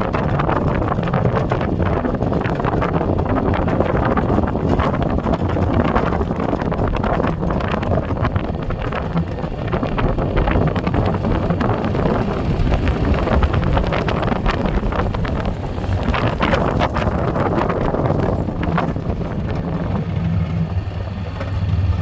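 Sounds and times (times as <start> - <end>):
quad bike engine running: 0.0 - 22.0
wind buffeting microphone: 0.0 - 22.0.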